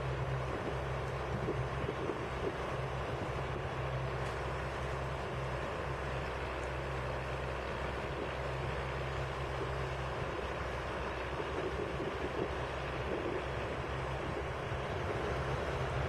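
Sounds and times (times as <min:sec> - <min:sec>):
heavy engine humming: 0:00.0 - 0:16.0.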